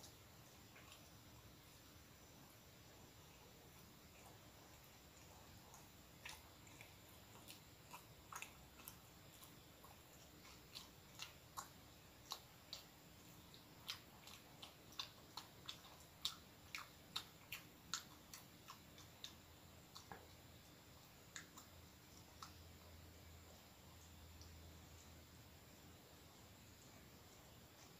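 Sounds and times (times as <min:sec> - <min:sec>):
person chewing bread: 0:00.0 - 0:25.4.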